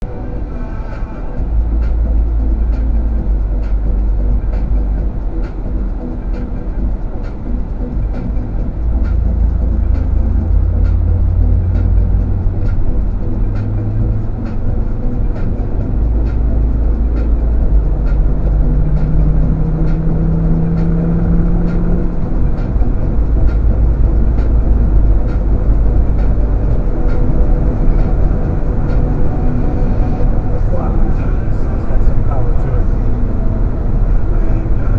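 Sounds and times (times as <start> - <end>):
diesel car engine drone: 0.0 - 34.9
tyre and road rumble: 1.3 - 34.9.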